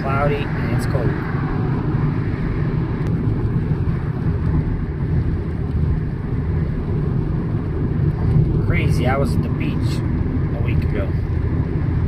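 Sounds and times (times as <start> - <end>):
car driving on highway: 0.0 - 12.0.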